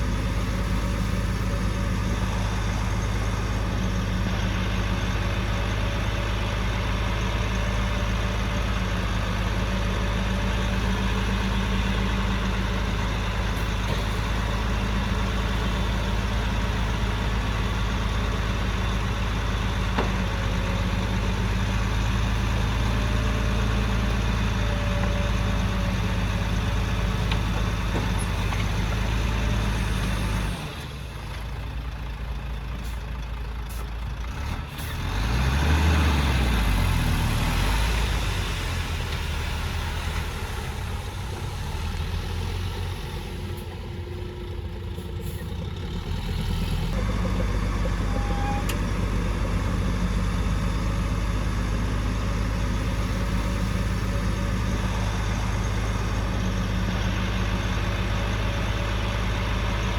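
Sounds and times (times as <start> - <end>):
diesel engine running: 0.0 - 59.9
second engine: 0.0 - 59.9.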